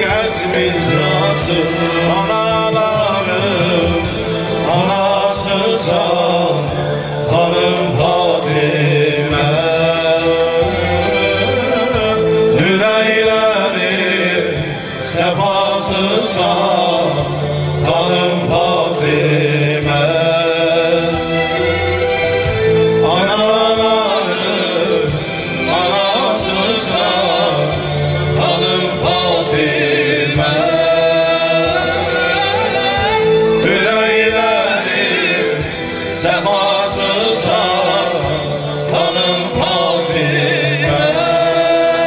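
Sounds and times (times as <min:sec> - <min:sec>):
men singing devotional song: 0:00.0 - 0:42.0.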